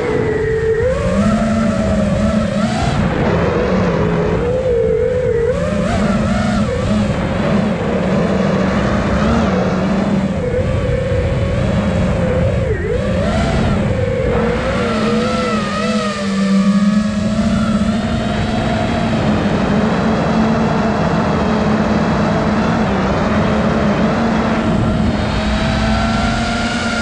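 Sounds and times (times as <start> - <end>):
drone motors whining: 0.0 - 27.0
rush of wind: 0.0 - 27.0.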